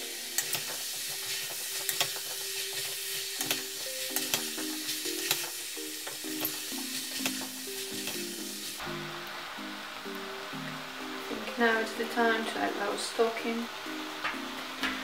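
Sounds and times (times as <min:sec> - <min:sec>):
vegetables sizzling in butter: 0:00.0 - 0:15.0.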